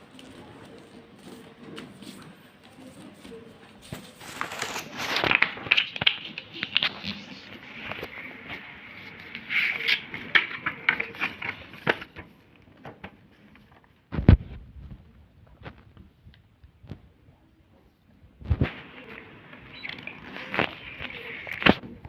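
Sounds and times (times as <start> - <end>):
paper crackling and rustling: 0.0 - 16.1, 18.4 - 22.0.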